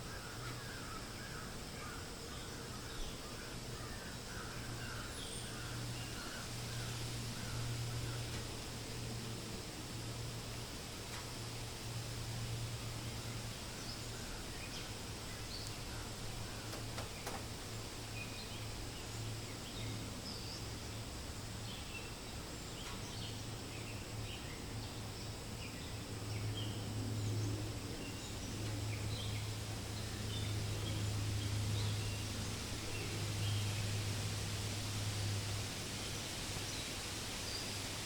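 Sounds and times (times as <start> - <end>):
birds chirping: 0.0 - 9.2, 12.8 - 21.0, 21.6 - 38.0
wind in leaves: 0.0 - 38.0.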